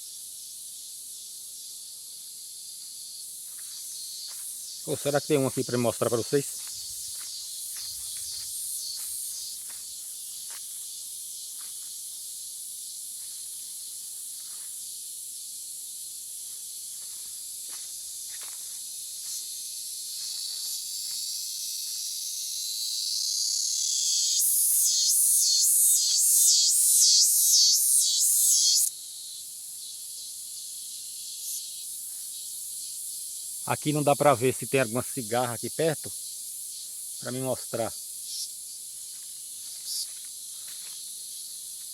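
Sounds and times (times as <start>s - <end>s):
cicadas buzzing: 0.0s - 41.9s
faint insect hiss: 0.0s - 41.9s.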